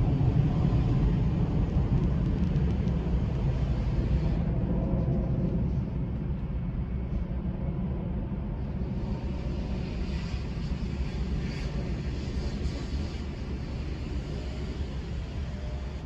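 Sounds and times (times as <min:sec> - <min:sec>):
distant jet engines rumble: 0:00.0 - 0:16.0.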